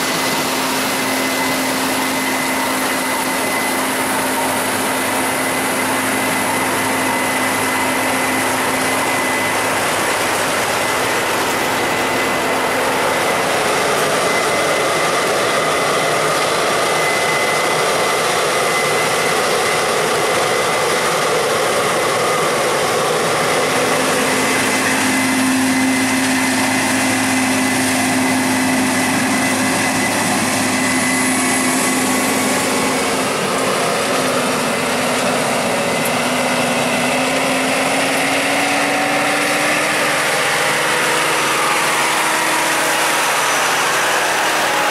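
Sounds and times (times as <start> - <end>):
diesel engine with high whine: 0.0 - 44.9.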